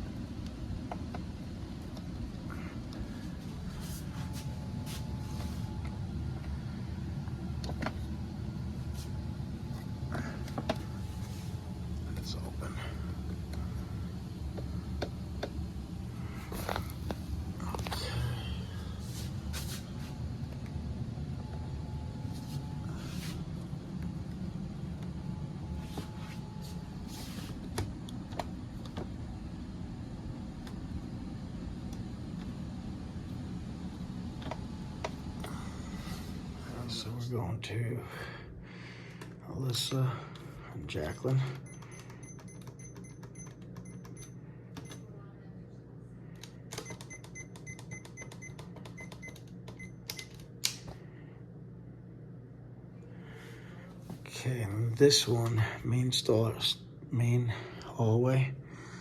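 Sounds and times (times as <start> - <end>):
hvac equipment humming: 0.0 - 59.0.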